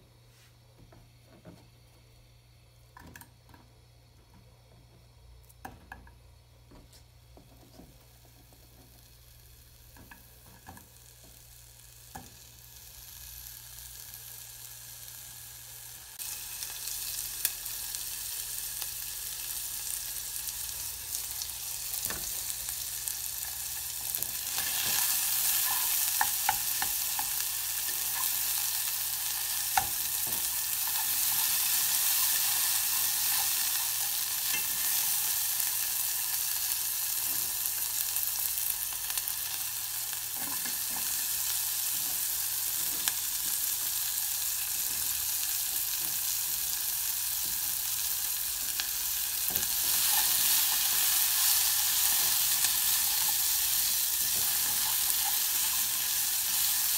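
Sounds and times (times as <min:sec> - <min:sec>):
onions sizzling in oil: 0:07.3 - 0:56.9.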